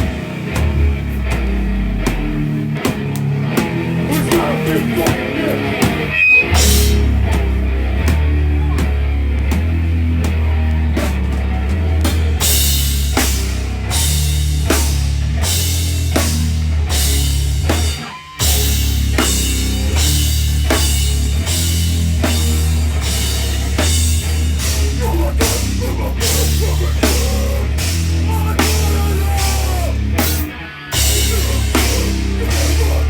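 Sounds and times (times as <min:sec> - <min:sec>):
distorted guitars and bass: 0:00.0 - 0:33.0
pounding drum kit: 0:00.0 - 0:33.0.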